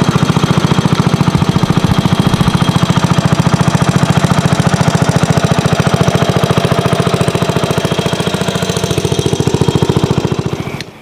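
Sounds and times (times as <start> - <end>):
small tractor engine chugging: 0.0 - 11.0.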